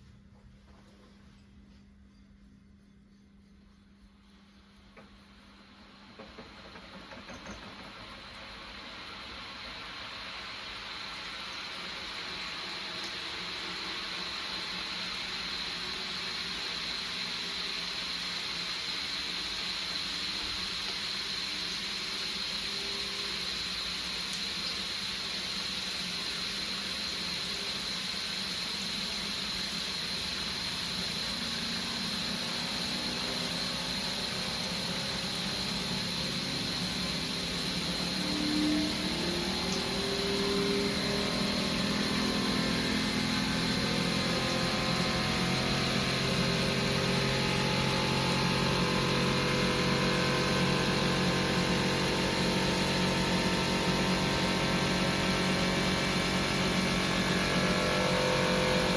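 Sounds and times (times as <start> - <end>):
washing machine hiss: 0.0 - 58.9
washing machine motor hum rising: 0.0 - 58.9.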